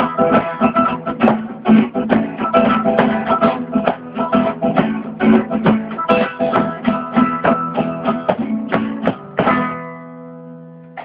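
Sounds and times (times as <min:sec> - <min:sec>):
guitar strumming chords: 0:00.0 - 0:11.0.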